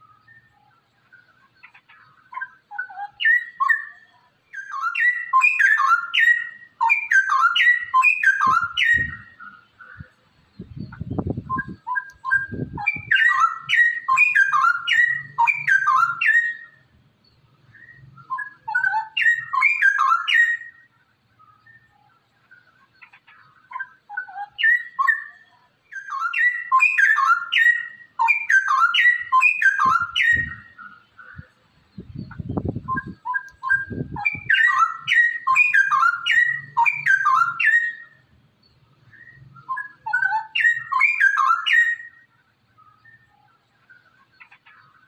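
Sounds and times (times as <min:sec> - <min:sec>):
bird singing: 0:00.0 - 0:45.0.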